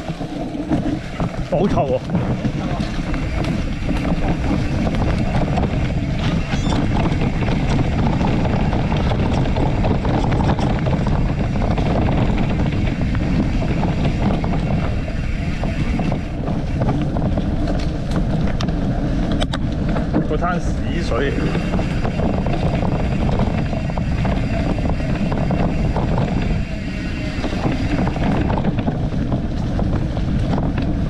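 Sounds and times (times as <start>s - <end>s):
bicycle rolling over rough ground: 0.0s - 31.0s
wind rumble on microphone: 0.0s - 31.0s.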